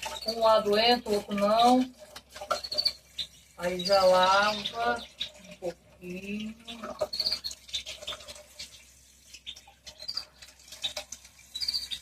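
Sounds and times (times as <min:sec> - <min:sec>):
birds chirping: 0:00.0 - 0:12.0
water splashing and pattering: 0:00.0 - 0:12.0.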